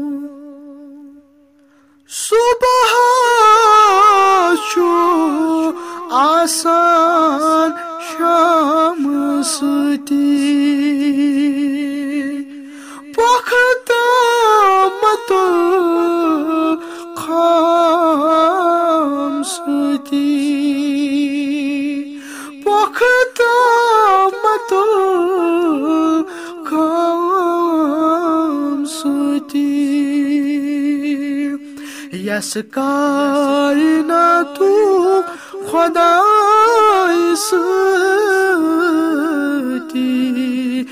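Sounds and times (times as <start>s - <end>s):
person singing a cappella: 0.0s - 40.9s.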